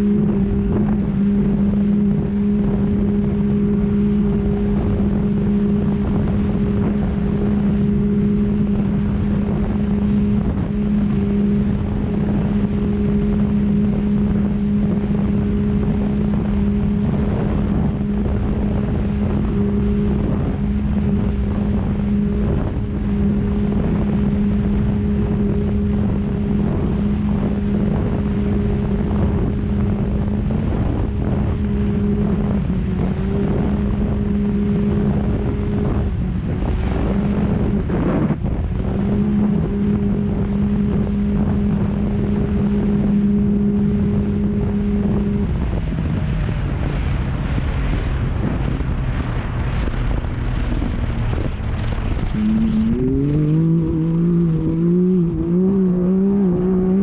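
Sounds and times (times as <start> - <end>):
race engine at high revs: 0.0 - 57.0
wind noise on microphone: 0.0 - 57.0.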